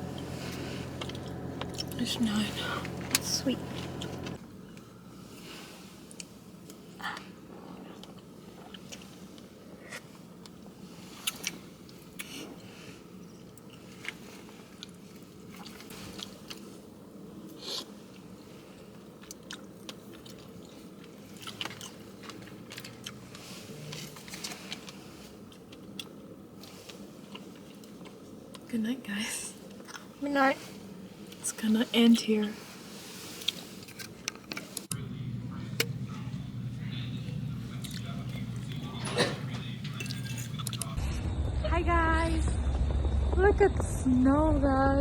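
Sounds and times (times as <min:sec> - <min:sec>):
low room hum: 0:00.0 - 0:45.0.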